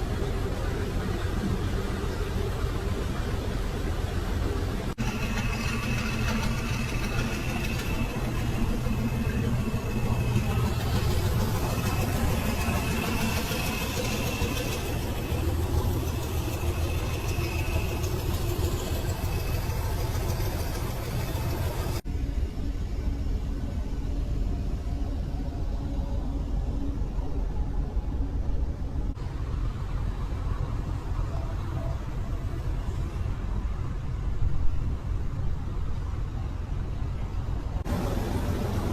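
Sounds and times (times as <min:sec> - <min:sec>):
heavy truck engines rumbling: 0:00.0 - 0:22.1, 0:22.8 - 0:38.9.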